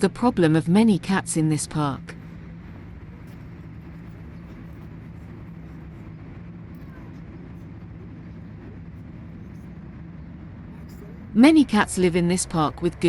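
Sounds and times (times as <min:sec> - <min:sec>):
constant low tone: 0:00.0 - 0:13.0
distant traffic rumble: 0:00.0 - 0:13.0.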